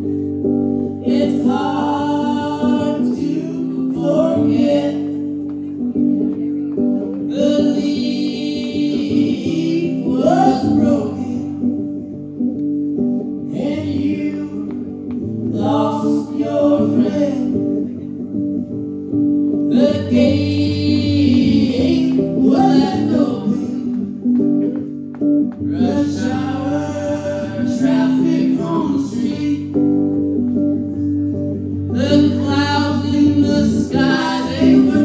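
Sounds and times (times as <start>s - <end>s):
person singing: 0.0s - 12.4s, 13.2s - 18.3s, 19.5s - 25.0s, 25.6s - 35.0s
electric guitar chords: 0.0s - 35.0s.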